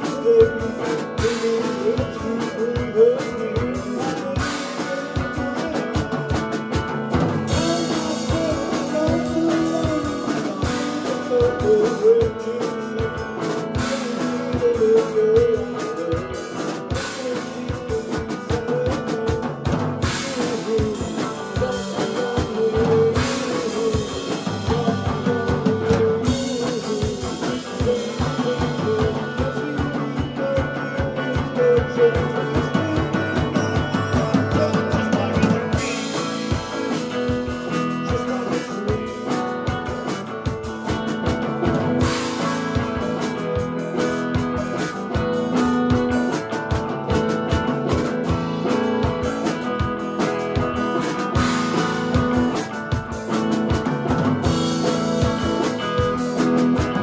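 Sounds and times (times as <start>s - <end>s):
electric guitar melody: 0.0s - 57.0s
steady drum beat: 0.0s - 57.0s.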